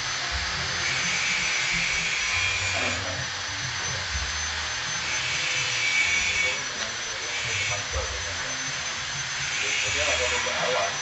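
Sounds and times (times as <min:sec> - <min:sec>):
chiller machine hiss: 0:00.0 - 0:11.0
high-pitched whine: 0:00.0 - 0:11.0
wavering low hum: 0:00.0 - 0:11.0.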